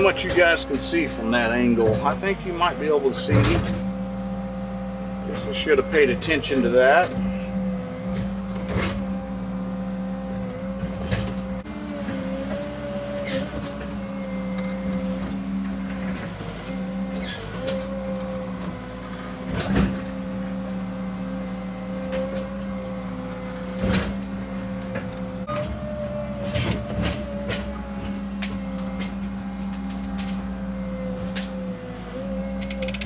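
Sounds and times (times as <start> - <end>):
excavator diesel engine running: 0.0 - 33.0
hydraulic whine: 0.0 - 33.0.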